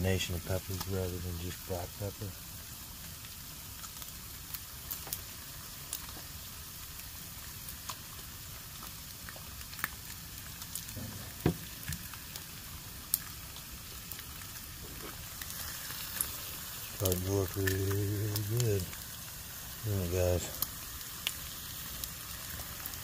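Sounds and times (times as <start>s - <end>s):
food sizzling on a grill: 0.0s - 23.0s.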